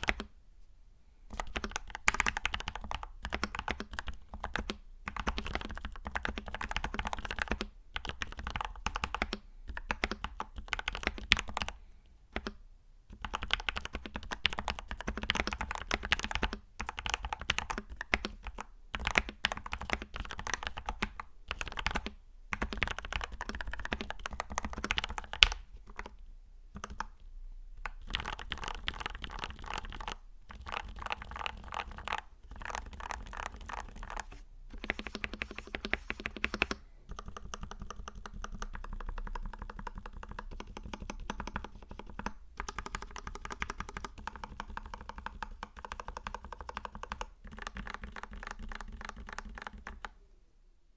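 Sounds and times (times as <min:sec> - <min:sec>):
mechanical keyboard typing: 0:00.0 - 0:00.3, 0:01.3 - 0:11.8, 0:12.4 - 0:27.2, 0:27.8 - 0:50.2.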